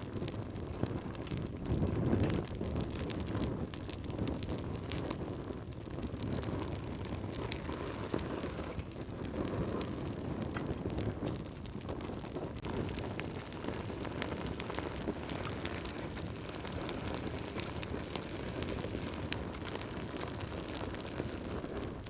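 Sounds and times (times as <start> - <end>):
low rush of flame: 0.0 - 22.0
wood fire crackling and popping: 0.0 - 22.0.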